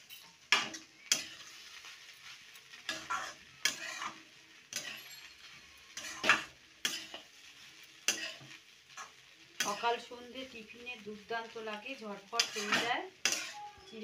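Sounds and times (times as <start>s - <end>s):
faint sizzle of frying: 0.0s - 14.0s
spatula scraping metal pan: 0.1s - 10.1s, 12.3s - 14.0s.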